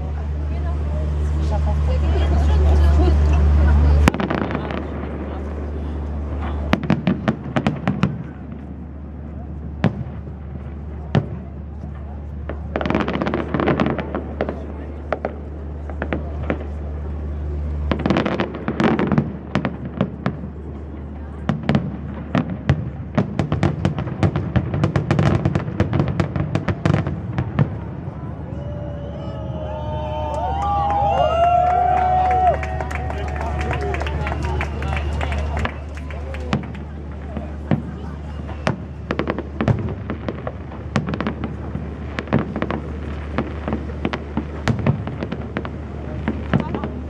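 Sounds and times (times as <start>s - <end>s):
fireworks bangs and cracks: 0.0s - 47.0s.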